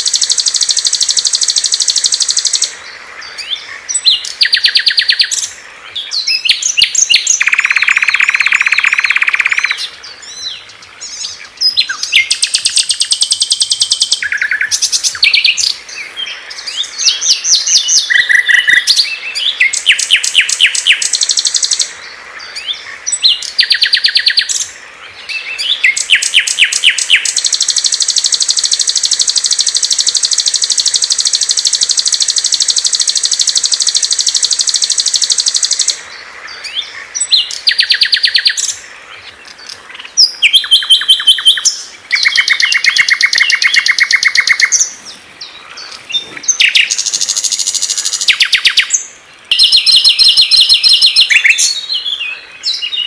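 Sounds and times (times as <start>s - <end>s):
songbirds trilling and chirping: 0.0s - 53.0s.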